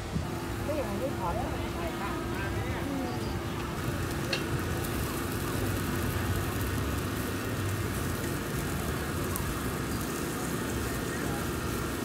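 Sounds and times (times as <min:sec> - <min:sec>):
skewers sizzling on a grill: 0:00.0 - 0:12.0.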